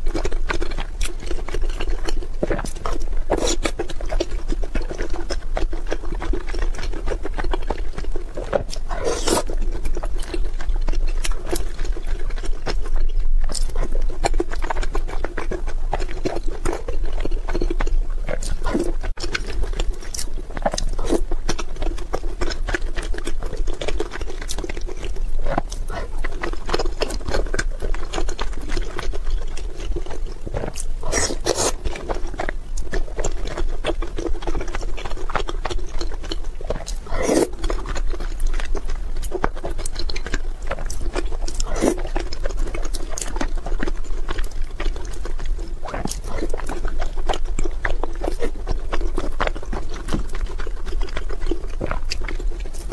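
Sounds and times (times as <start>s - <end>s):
chewing and wet lip smacking: 0.0s - 52.9s.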